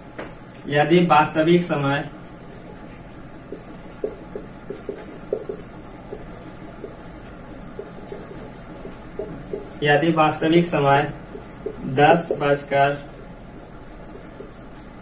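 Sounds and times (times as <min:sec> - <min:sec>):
steady high-pitched trill: 0:00.7 - 0:15.0
marker squeaking on whiteboard: 0:02.5 - 0:15.0.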